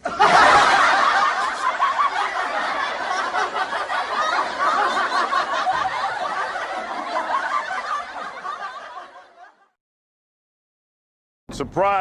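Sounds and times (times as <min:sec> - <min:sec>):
crowd laughing: 0:00.0 - 0:09.8.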